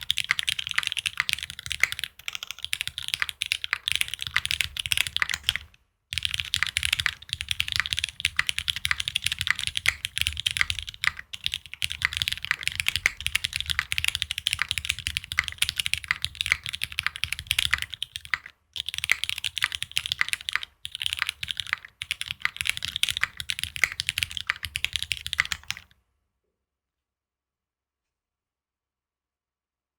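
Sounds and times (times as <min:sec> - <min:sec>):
fast typing on mechanical keyboard: 0:00.0 - 0:25.9.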